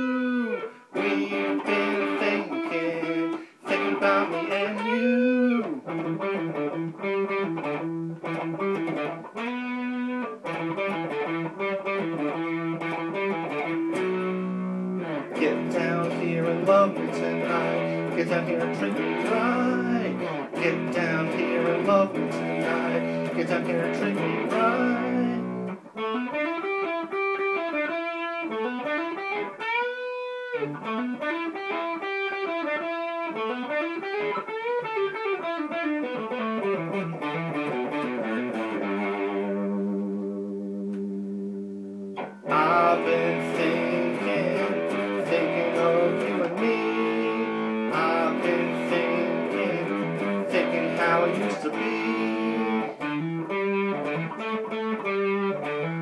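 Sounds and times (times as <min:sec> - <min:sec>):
driven guitar strumming: 0:00.0 - 0:56.0
electric guitar solo: 0:00.0 - 0:56.0.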